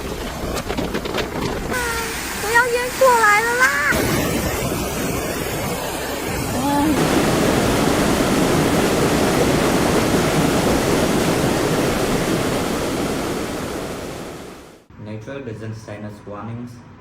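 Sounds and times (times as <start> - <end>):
storm wind and water rushing: 0.0 - 14.9.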